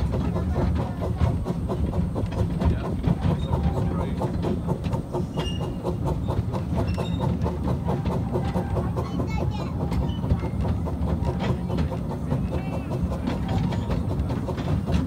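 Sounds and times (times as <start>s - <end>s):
railway carriage rumble: 0.0s - 15.0s
wheels clicking over rail joints: 0.0s - 15.0s.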